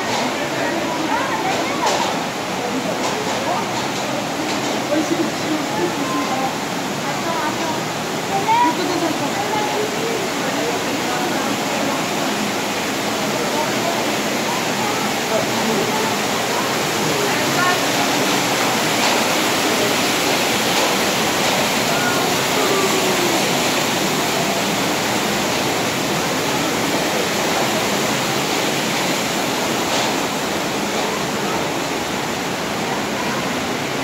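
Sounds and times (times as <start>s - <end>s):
white-water torrent rushing: 0.0s - 34.0s.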